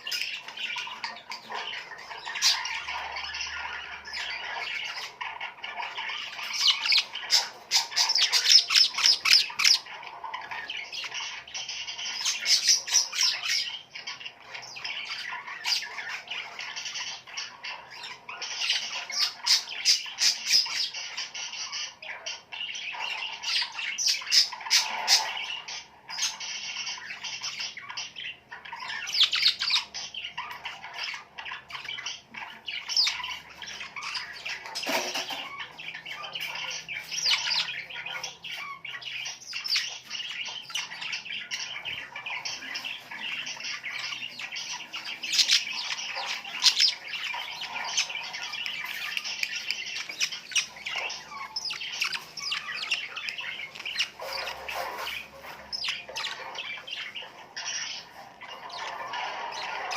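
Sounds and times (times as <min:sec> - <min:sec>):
birds chattering and squawking: 0:00.0 - 0:59.9.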